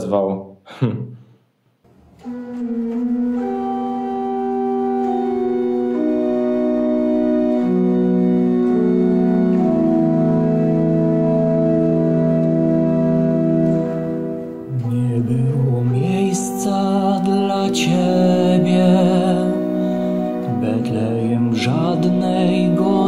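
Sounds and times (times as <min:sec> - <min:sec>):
organ playing slow chords: 0:02.0 - 0:23.0.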